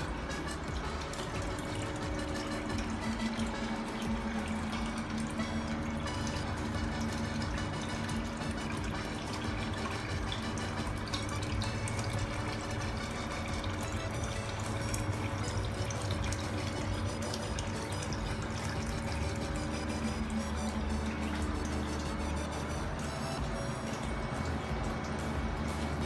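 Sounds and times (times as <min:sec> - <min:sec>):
low steady hum: 0:00.0 - 0:26.0
water pouring into a tub: 0:00.0 - 0:26.0.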